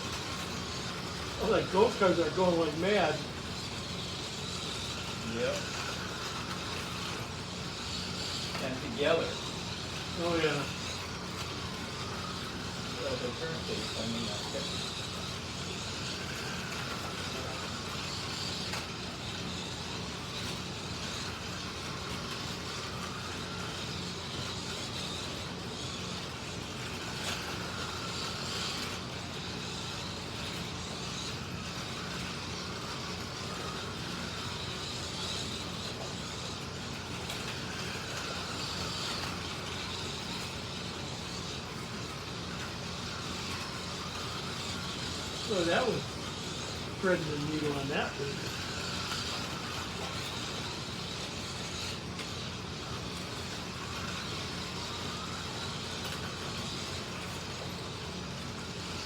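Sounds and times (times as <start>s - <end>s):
slot car motors whining: 0.0s - 59.0s.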